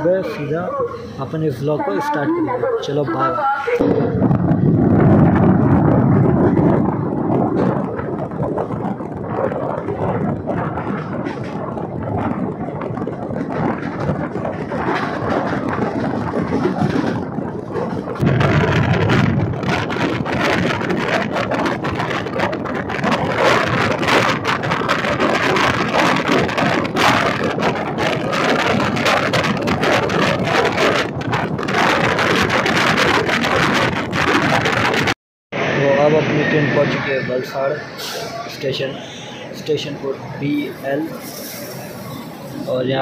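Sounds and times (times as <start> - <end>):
train wheels rumbling on rails: 0.0 - 43.0
wind buffeting microphone: 0.0 - 43.0.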